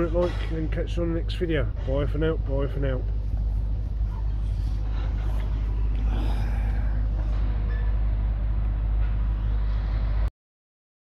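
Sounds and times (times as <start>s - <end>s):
low outdoor rumble: 0.0s - 10.3s.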